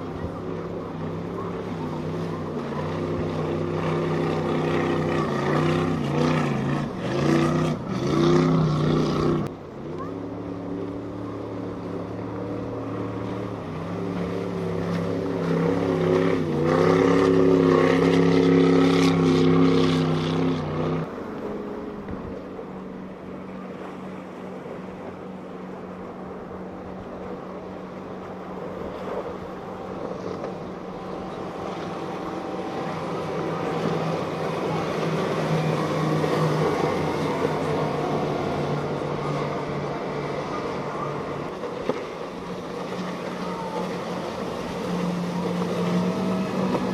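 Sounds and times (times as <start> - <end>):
outboard motors drone: 0.0 - 46.9
powerboat engines at speed: 0.0 - 46.9
rushing water: 0.0 - 46.9
wind: 0.0 - 46.9.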